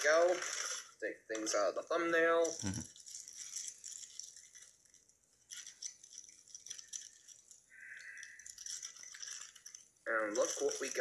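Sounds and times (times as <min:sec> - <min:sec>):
paper wrapper crinkling: 0:00.0 - 0:01.0, 0:02.4 - 0:11.0.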